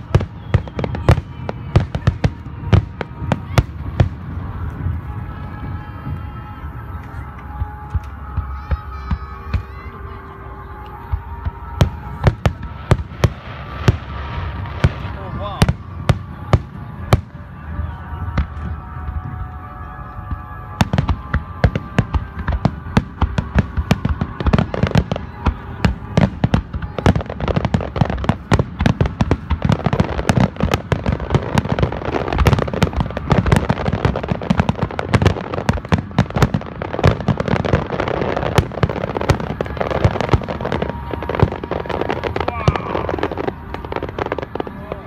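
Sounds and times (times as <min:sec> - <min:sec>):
fireworks bursting: 0:00.0 - 0:45.0
fireworks crackling: 0:00.0 - 0:45.0.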